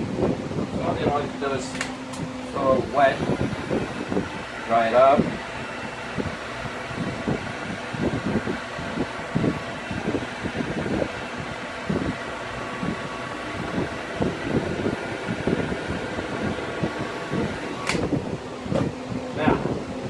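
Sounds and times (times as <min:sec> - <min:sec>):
low airflow rumbles: 0:00.0 - 0:20.0
heat gun blowing: 0:01.8 - 0:18.4.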